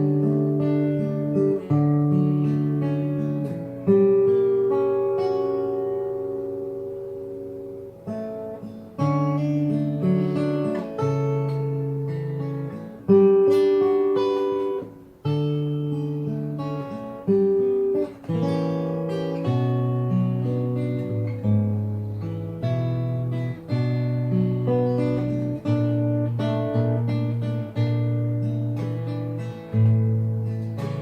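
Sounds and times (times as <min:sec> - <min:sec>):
fingerstyle acoustic guitar: 0:00.0 - 0:31.0.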